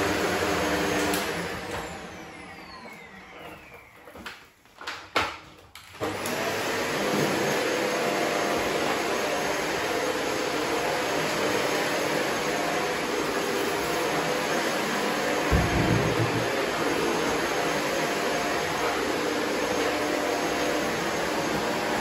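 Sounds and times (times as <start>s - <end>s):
vacuum cleaner motor running: 0.0s - 4.9s, 5.8s - 22.0s.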